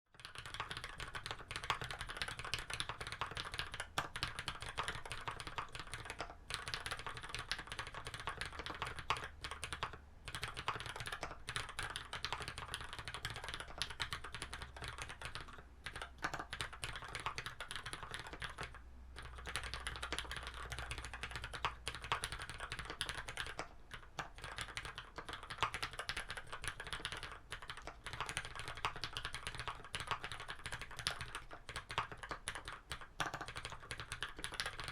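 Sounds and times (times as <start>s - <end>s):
fast typing on mechanical keyboard: 0.1s - 34.9s.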